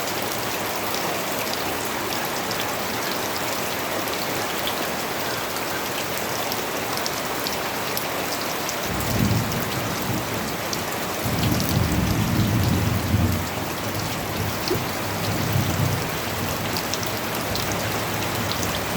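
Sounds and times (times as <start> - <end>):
steady rainfall: 0.0 - 18.9.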